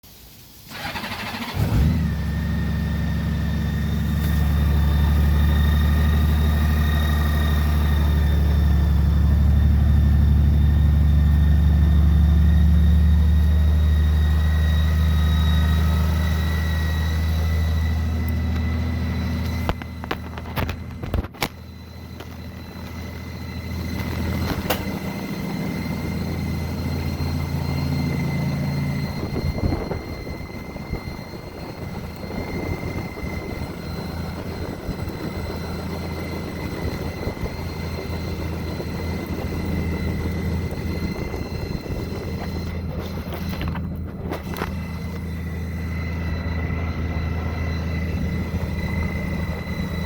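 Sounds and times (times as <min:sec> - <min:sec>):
faint high whine: 0:00.1 - 0:50.0
motorcycle engine starting and idling: 0:00.6 - 0:50.0.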